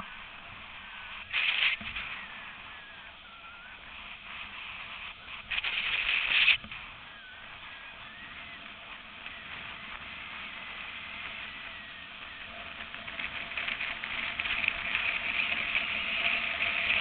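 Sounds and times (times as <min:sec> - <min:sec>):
longboard wheels rolling on asphalt: 0:00.0 - 0:17.0
wind on microphone: 0:00.0 - 0:17.0.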